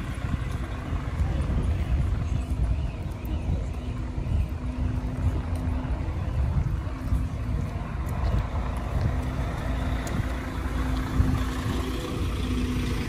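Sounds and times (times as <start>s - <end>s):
general traffic noise: 0.0s - 13.0s
heavy vehicle engine rumbling: 0.0s - 13.0s.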